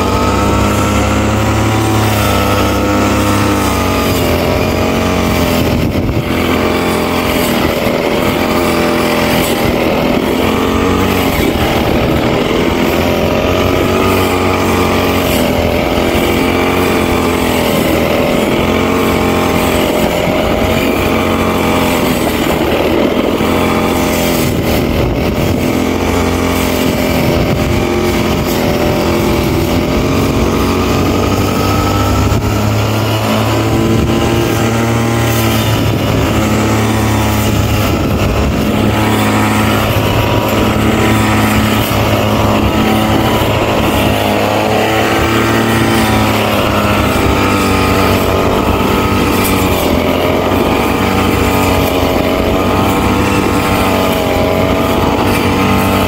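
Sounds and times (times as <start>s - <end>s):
brush cutter engine running: 0.0s - 56.0s.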